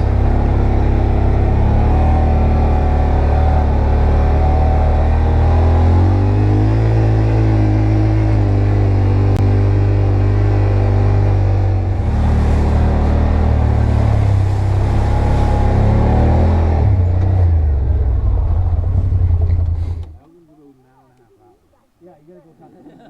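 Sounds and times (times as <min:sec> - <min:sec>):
off-road vehicle engine: 0:00.0 - 0:20.4.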